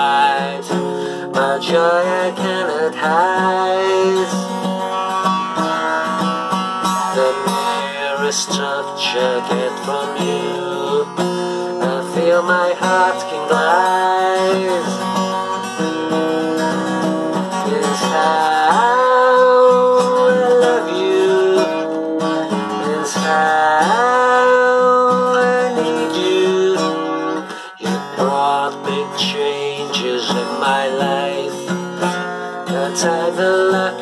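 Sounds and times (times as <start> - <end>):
man singing: 0.0 - 4.6, 7.0 - 15.4, 16.5 - 34.0
acoustic guitar strumming: 0.0 - 34.0.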